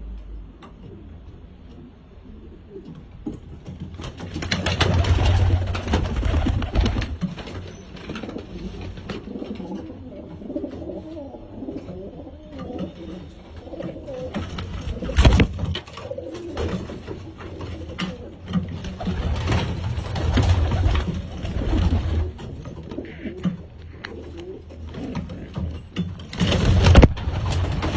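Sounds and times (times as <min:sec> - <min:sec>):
pigeons cooing: 0:04.4 - 0:27.9.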